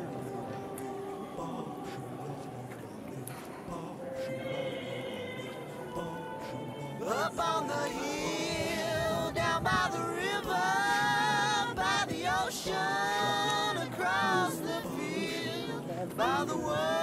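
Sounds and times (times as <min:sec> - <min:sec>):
person singing long notes: 0:00.0 - 0:17.0.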